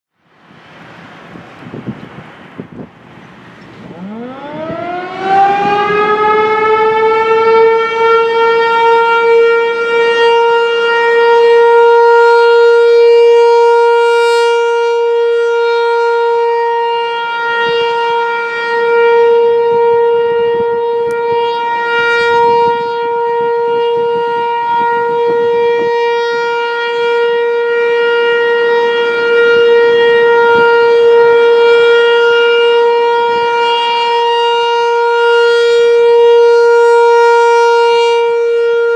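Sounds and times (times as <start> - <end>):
warning siren wailing: 0.2 - 38.9.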